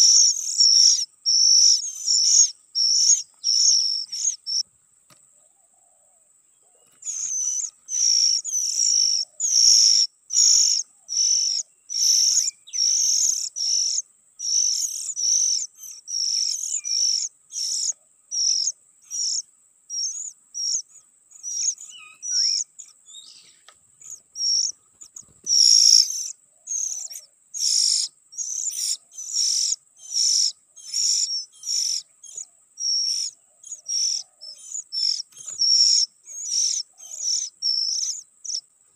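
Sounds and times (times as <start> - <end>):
birds rasping calls: 0.0 - 4.6, 6.8 - 38.6.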